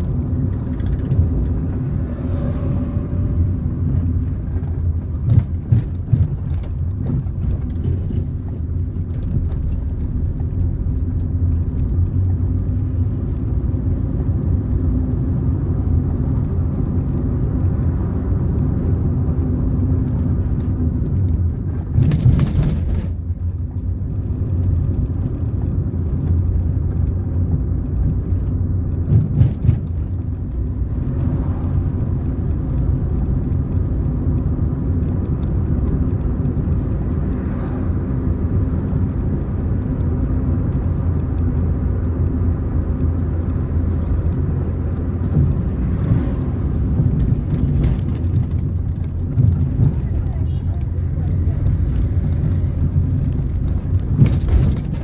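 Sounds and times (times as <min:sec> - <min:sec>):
car driving on a road: 0:00.0 - 0:55.0.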